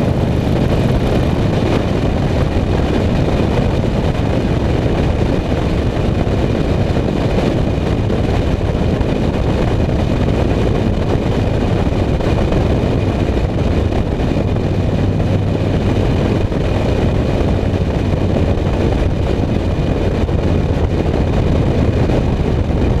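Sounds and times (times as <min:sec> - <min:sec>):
low exhaust drone: 0:00.0 - 0:23.0
wind rushing on microphone: 0:00.0 - 0:23.0.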